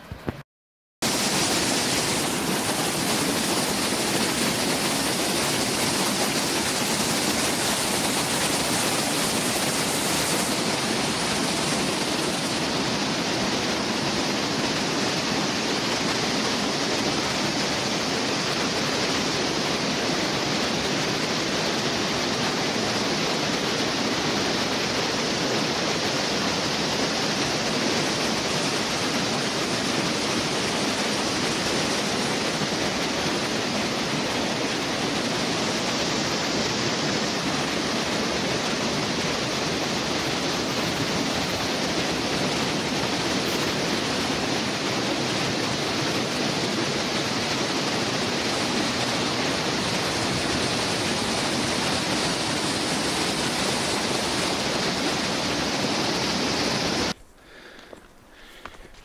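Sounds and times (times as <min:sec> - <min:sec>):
stream rushing over rocks: 0:01.0 - 0:59.0.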